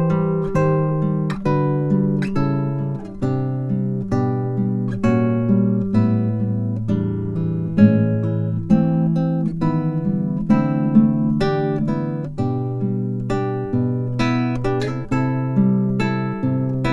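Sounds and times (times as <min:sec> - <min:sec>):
acoustic guitar music: 0:00.0 - 0:16.9.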